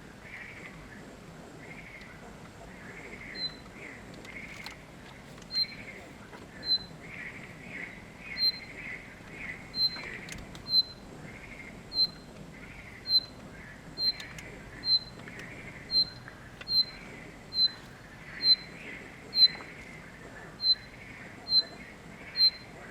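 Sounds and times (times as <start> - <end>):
soft lower bird notes: 3.0 - 22.9.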